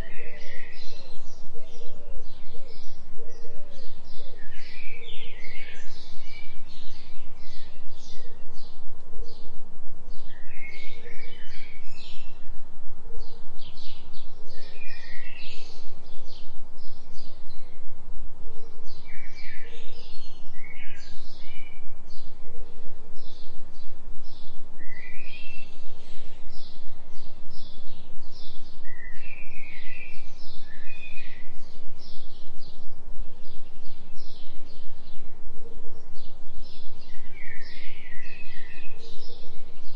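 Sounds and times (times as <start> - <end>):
low steady drone: 0.0 - 39.9
small birds chirping: 0.0 - 39.9.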